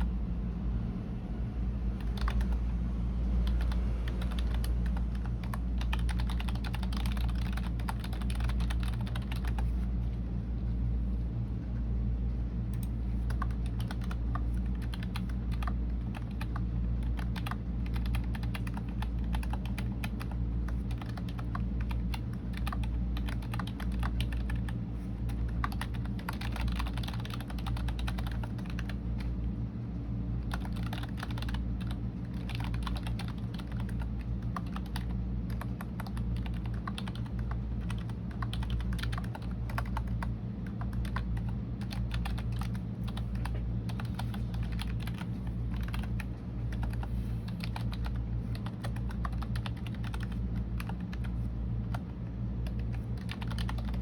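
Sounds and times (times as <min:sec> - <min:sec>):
low background hum: 0:00.0 - 0:54.0
typing on a keyboard: 0:02.0 - 0:02.6, 0:03.4 - 0:09.7, 0:12.8 - 0:29.3, 0:30.4 - 0:54.0.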